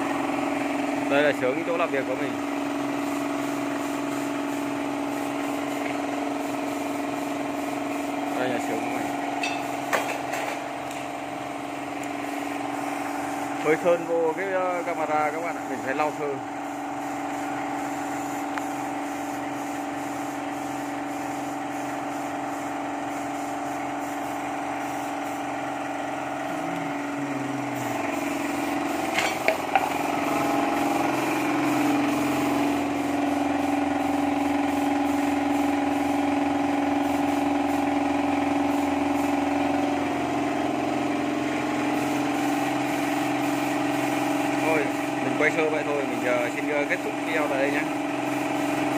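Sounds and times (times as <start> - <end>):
electric air compressor humming: 0.0 - 48.9.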